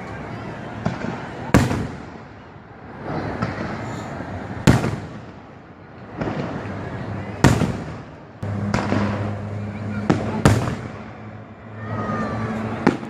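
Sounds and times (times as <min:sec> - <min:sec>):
fireworks crackling: 0:00.0 - 0:13.0
fireworks booming: 0:00.7 - 0:11.5, 0:12.6 - 0:13.0.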